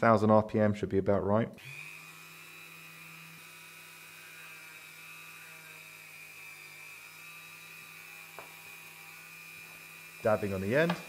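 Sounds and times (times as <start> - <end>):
rotary tool whining: 1.6 - 11.0.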